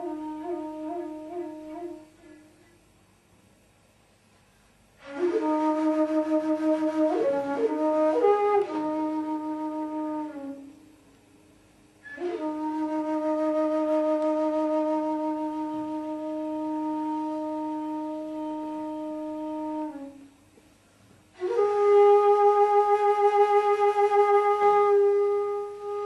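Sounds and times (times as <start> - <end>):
wind instrument long notes: 0.0 - 2.8, 5.0 - 11.0, 12.0 - 20.4, 21.3 - 26.0.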